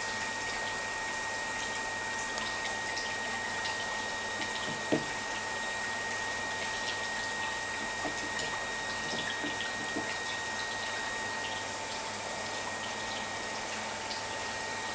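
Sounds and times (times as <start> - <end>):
running and trickling water: 0.0 - 14.9.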